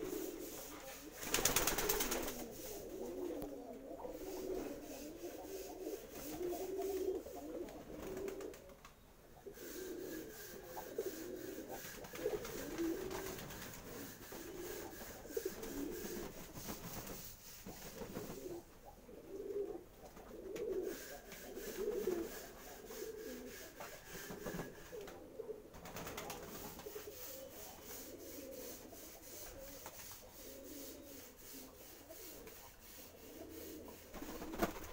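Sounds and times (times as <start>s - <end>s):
pigeons cooing: 0.0s - 16.7s, 17.8s - 34.9s.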